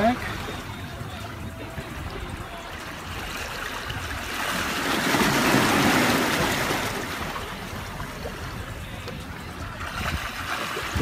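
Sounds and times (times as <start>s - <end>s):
sea wave surging against rocks: 0.0s - 11.0s.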